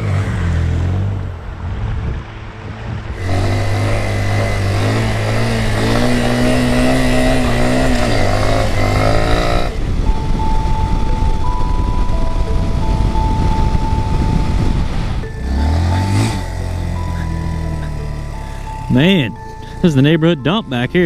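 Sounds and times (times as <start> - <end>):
motorcycle engine revving: 0.0 - 21.0
simple tune of held notes: 3.6 - 21.0.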